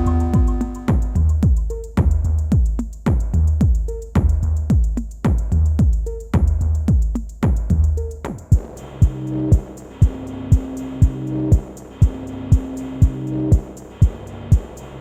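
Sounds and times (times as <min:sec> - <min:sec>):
deep kick drums: 0:00.0 - 0:14.8
fast ticking hi-hats: 0:00.0 - 0:15.0.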